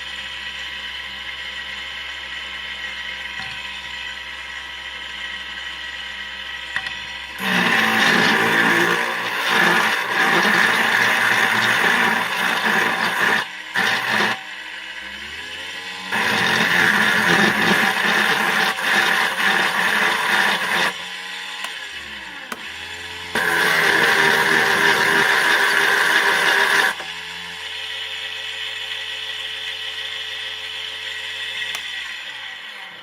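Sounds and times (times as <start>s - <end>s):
small electric motor whining: 0.7s - 33.0s.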